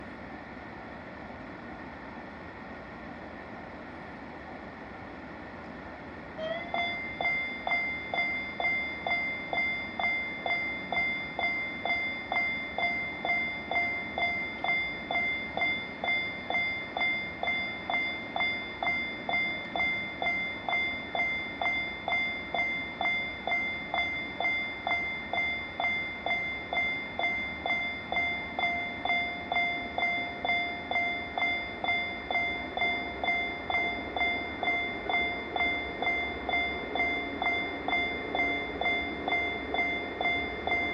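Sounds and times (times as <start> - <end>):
continuous high ringing tone: 0.0 - 40.9
level crossing bell dinging: 6.4 - 40.9.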